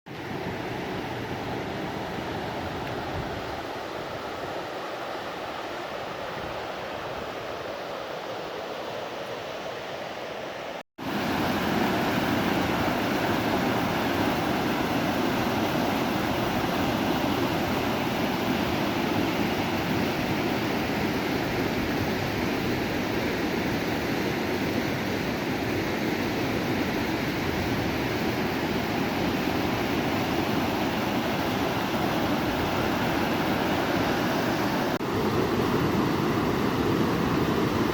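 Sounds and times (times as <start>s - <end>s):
river water flowing: 0.1s - 37.9s.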